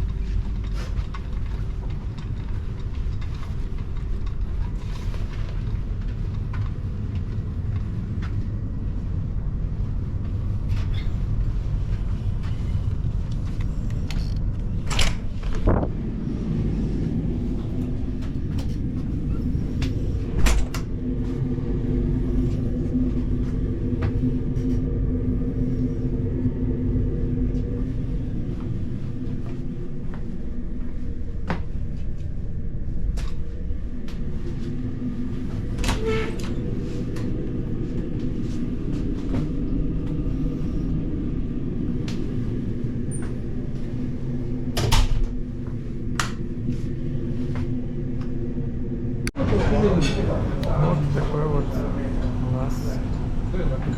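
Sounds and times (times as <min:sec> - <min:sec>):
low engine drone: 0:00.0 - 0:53.9.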